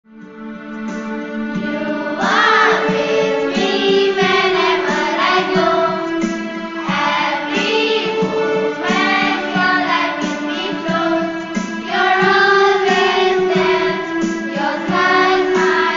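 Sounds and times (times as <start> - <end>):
held instrumental notes: 0.1 - 15.9
voices singing a wavering melody: 1.6 - 15.9.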